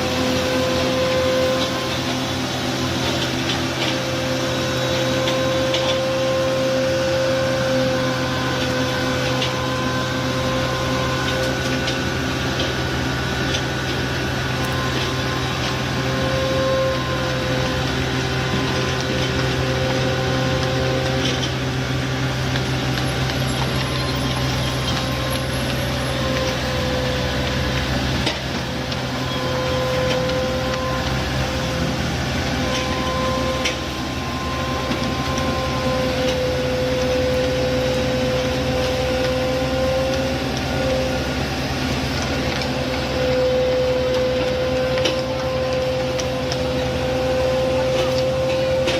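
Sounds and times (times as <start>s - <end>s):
diesel engine low hum: 0.0s - 48.9s
wavering whine: 0.0s - 48.9s.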